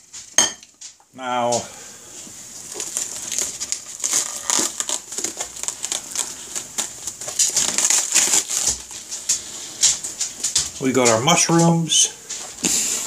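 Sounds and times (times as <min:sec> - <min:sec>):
plastic wrap crinkling: 0:01.3 - 0:13.0.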